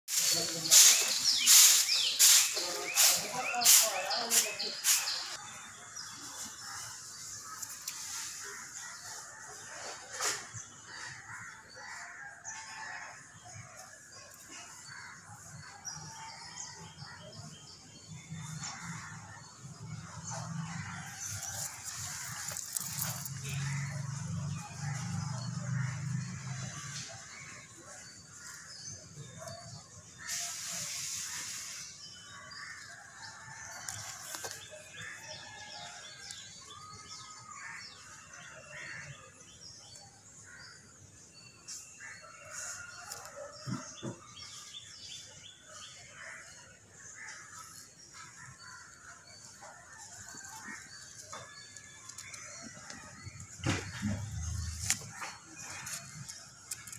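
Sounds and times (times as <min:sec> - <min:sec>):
birds chirping: 0:00.1 - 0:56.9.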